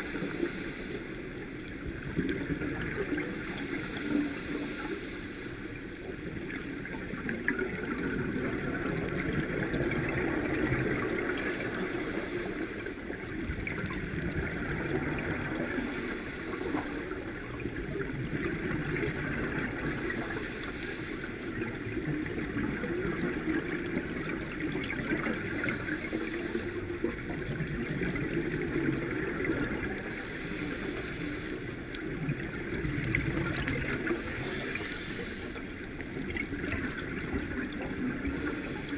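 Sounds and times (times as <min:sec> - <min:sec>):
water hiss: 0:00.0 - 0:01.9, 0:02.6 - 0:05.9, 0:09.5 - 0:14.0, 0:14.7 - 0:18.4, 0:19.0 - 0:22.4, 0:23.8 - 0:27.3, 0:28.1 - 0:38.9
muffled water noise: 0:00.0 - 0:38.9.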